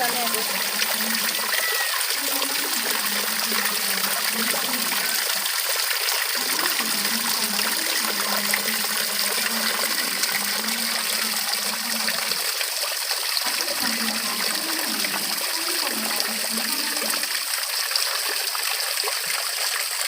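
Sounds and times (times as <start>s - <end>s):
water flowing and splashing: 0.0s - 20.0s.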